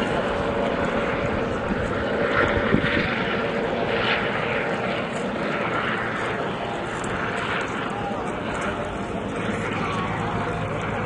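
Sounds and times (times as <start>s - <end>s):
distant helicopter drone: 0.0s - 11.0s.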